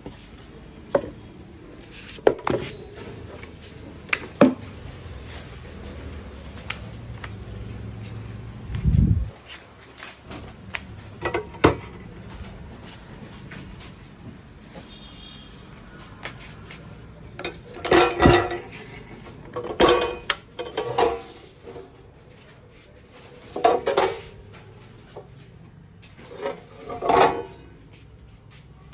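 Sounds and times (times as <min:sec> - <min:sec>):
hard parts and packaging clattering: 0:00.0 - 0:15.3, 0:16.0 - 0:28.0.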